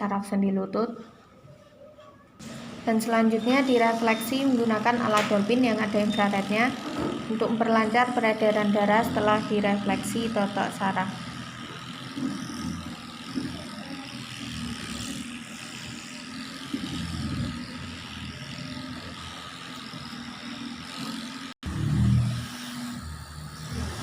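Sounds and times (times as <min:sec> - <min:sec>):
massager motor hum: 0:02.4 - 0:24.0.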